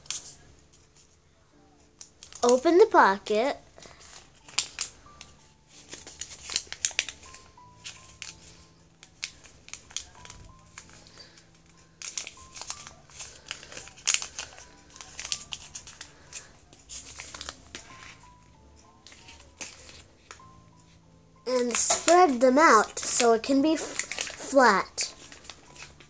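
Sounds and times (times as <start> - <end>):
paper crinkling and crackling: 0.0 - 1.2, 1.8 - 26.0
quiet background music: 0.0 - 26.0.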